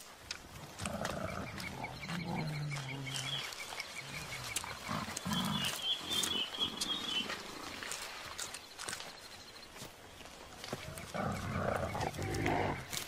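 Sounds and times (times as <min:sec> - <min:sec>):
bird chirping: 0:00.9 - 0:12.9.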